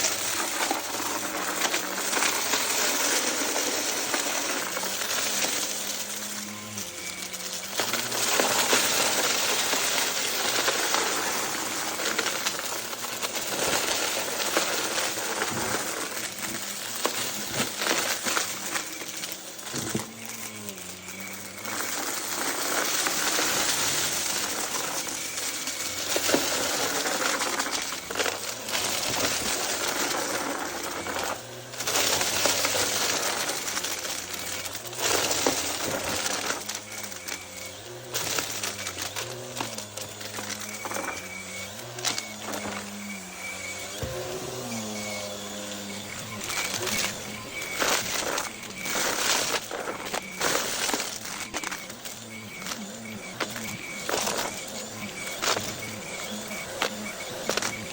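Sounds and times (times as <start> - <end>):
vacuum cleaner sucking debris: 0.0 - 57.9.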